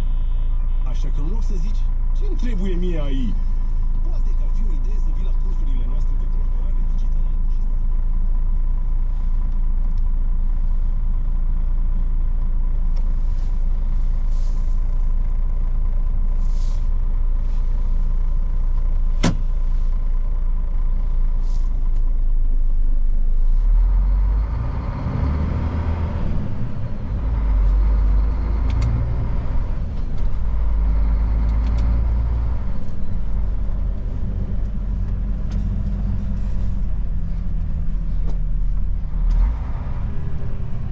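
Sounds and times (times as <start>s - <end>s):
truck engine rumble: 0.0s - 40.9s.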